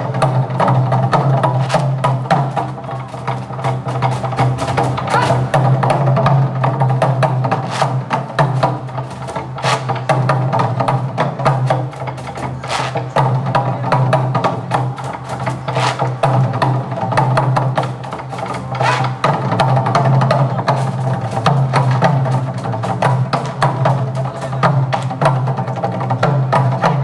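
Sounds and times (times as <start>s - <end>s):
barrel drums played with sticks: 0.0s - 27.0s.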